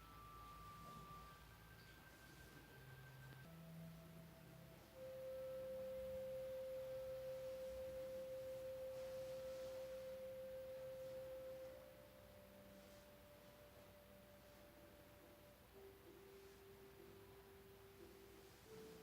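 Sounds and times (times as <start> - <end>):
faint pure steady tone: 0.0 - 19.0
softer higher tone: 0.0 - 19.0.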